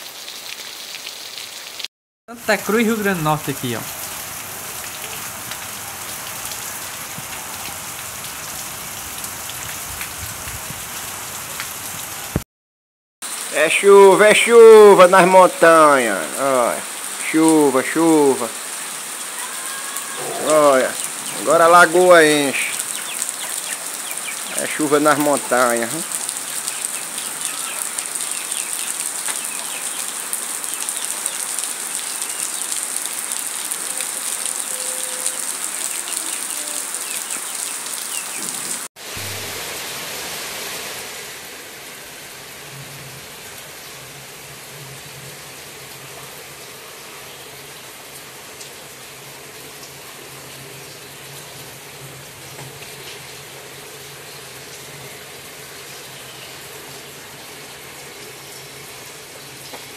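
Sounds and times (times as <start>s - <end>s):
heavy rain falling: 0.0s - 12.4s, 13.3s - 59.9s.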